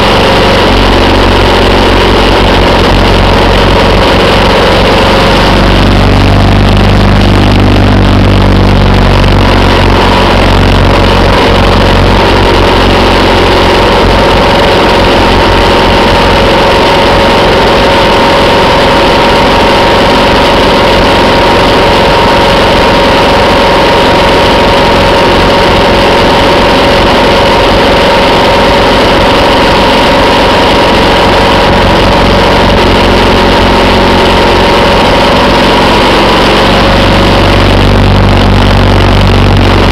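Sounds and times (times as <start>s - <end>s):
air rush and road noise: 0.0s - 39.9s
motorcycle engine running: 0.0s - 39.9s.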